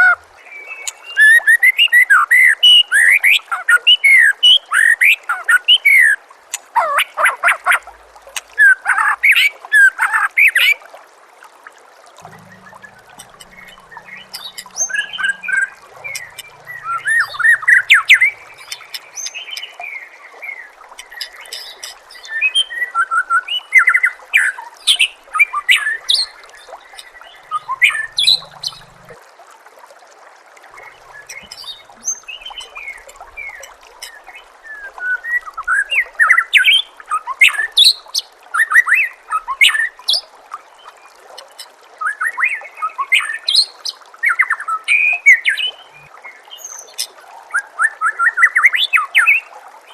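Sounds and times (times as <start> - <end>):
trickling water hiss: 0.0 - 49.9.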